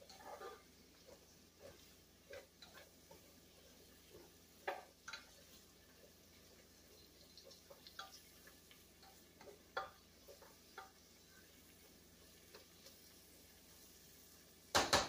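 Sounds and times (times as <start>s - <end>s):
spatula clicking and scraping pot: 0.0s - 13.6s
onions sauteing: 0.0s - 15.0s.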